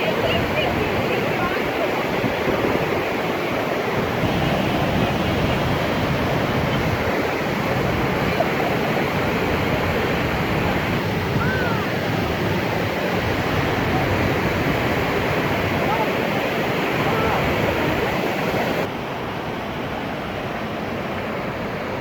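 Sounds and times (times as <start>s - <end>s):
loud rush of water: 0.0s - 22.0s.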